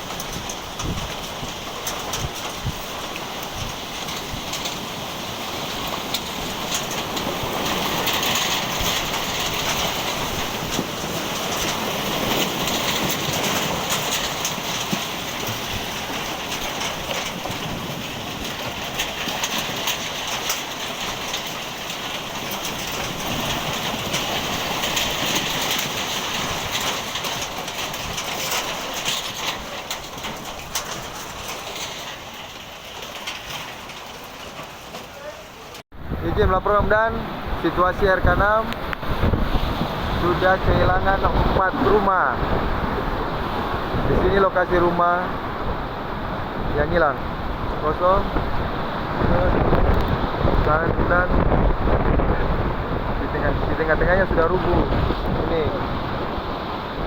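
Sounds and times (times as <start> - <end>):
rain patter: 0.0 - 57.0
strong storm wind: 0.0 - 57.0.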